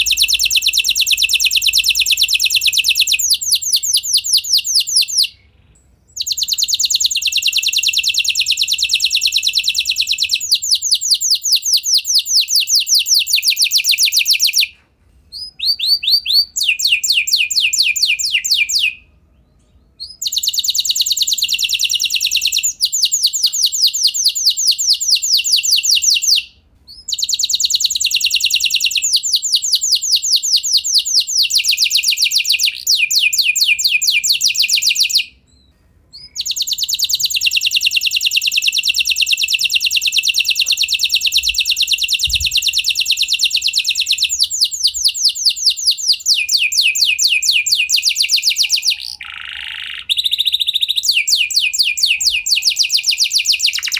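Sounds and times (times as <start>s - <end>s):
canary singing trills: 0.0s - 14.7s, 15.3s - 53.9s.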